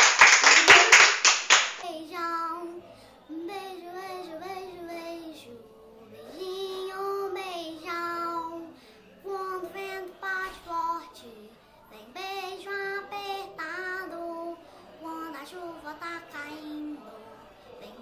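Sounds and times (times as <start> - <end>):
boy singing: 1.8 - 17.2.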